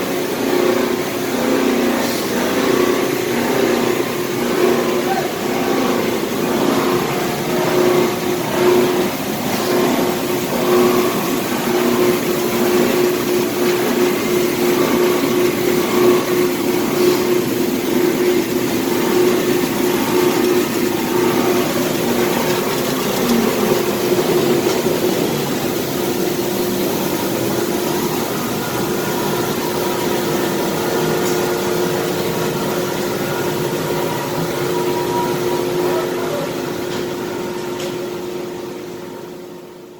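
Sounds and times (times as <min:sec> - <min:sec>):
industrial machine humming: 0:00.0 - 0:39.9.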